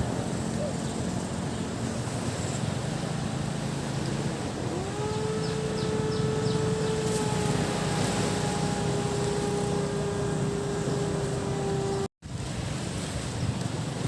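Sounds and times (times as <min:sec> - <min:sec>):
engine droning: 0:00.0 - 0:12.1
surf rumble: 0:00.0 - 0:14.0
wind: 0:00.0 - 0:14.0.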